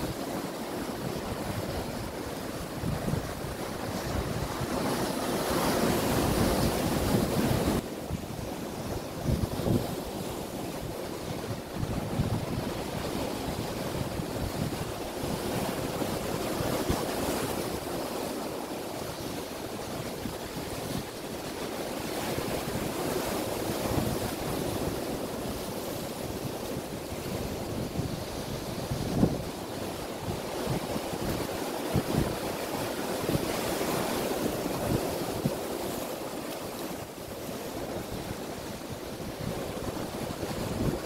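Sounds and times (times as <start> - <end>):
wind buffeting microphone: 0.0 - 18.2, 19.0 - 41.0
surf washing over rocks: 0.0 - 41.0.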